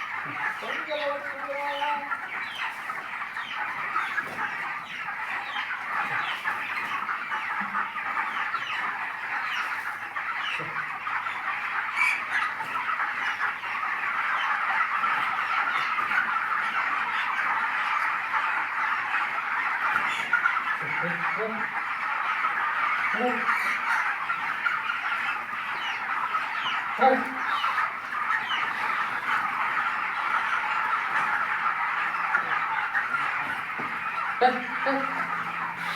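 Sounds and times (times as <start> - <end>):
chickens peeping and clucking: 0.0 - 35.9.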